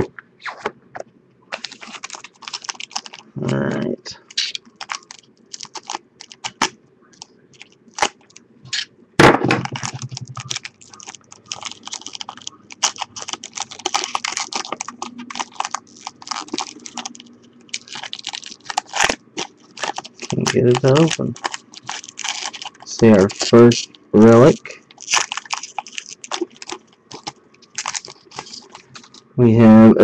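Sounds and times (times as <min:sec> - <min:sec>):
foil wrapper crinkling: 0:01.5 - 0:08.4, 0:09.6 - 0:29.3.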